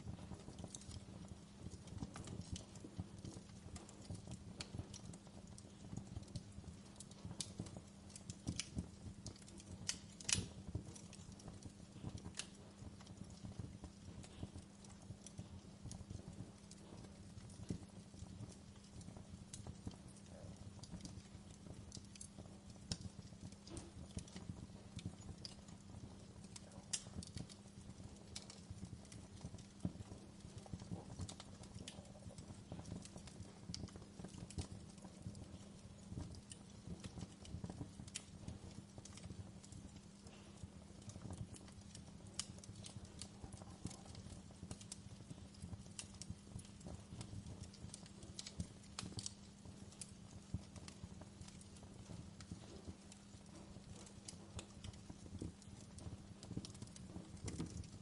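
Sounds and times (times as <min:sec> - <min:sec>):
wood fire crackling: 0:00.0 - 0:58.0
sharp pops and snaps: 0:00.1 - 0:58.0.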